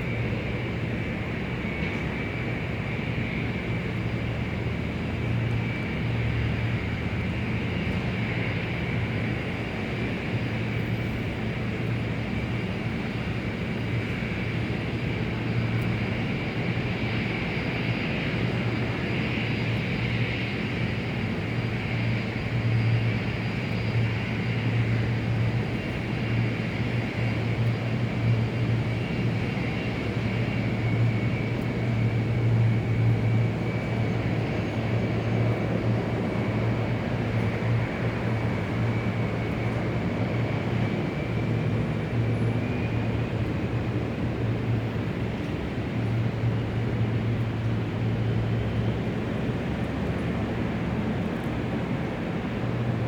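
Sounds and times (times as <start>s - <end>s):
distant jet engines: 0.0s - 53.0s.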